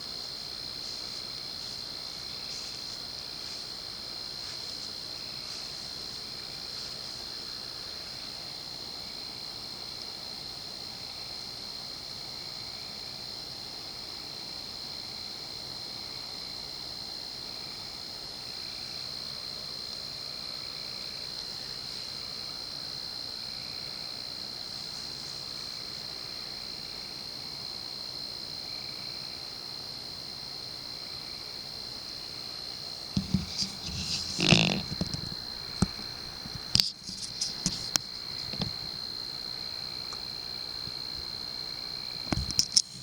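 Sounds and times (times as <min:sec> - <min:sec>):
night insects chorus: 0:00.0 - 0:43.0.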